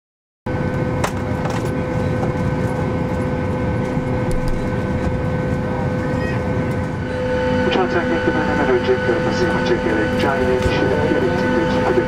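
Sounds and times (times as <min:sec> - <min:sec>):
aircraft air system rumble: 0:00.5 - 0:12.0
constant whine: 0:00.5 - 0:12.0.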